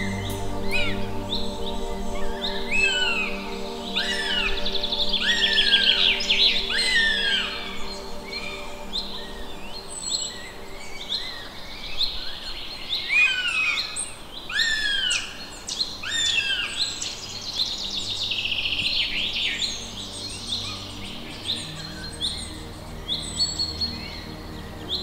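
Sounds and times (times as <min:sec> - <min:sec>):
birds chirping and whistling: 0:00.0 - 0:25.0.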